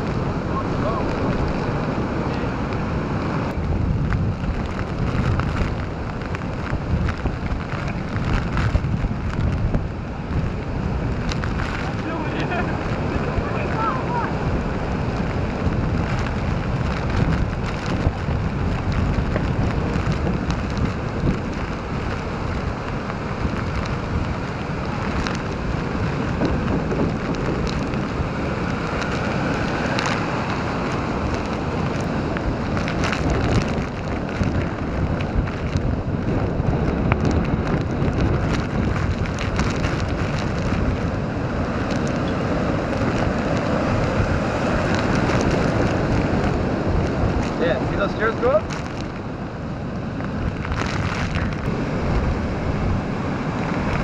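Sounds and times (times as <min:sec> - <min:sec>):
heavy surf breaking: 0:00.0 - 0:54.0
wind buffeting microphone: 0:00.0 - 0:54.0.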